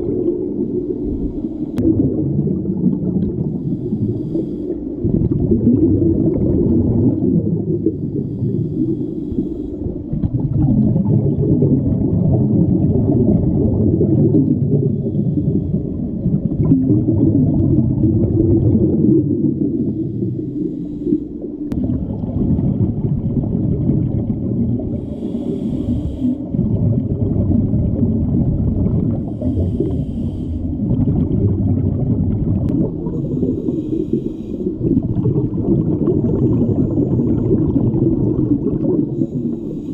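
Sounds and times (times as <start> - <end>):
underwater rumble and bubbles: 0.0 - 39.9.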